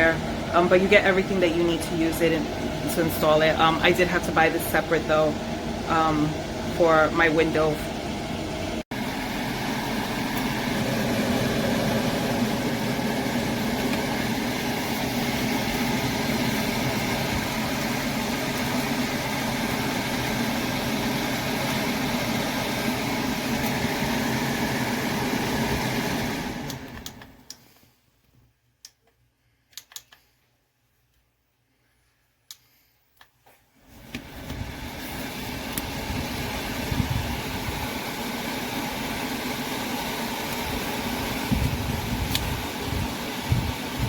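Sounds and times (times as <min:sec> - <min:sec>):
exhaust fan whooshing hum: 0:00.0 - 0:27.7, 0:33.8 - 0:44.0.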